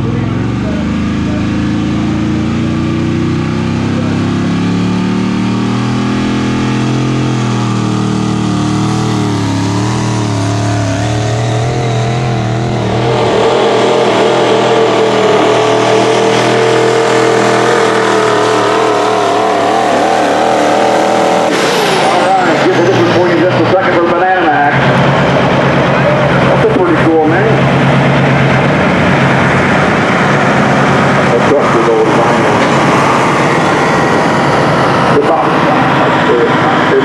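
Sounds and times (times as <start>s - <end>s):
diesel engine running hard: 0.0s - 37.0s.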